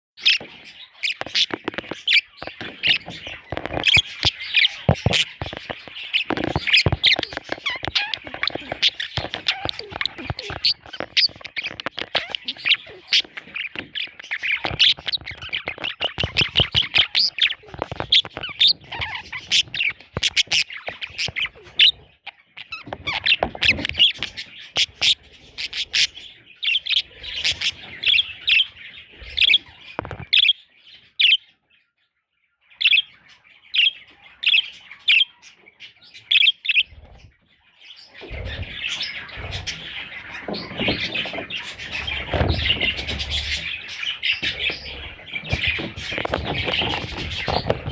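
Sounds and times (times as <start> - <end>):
baby budgerigars chirping: 0.2 - 47.9.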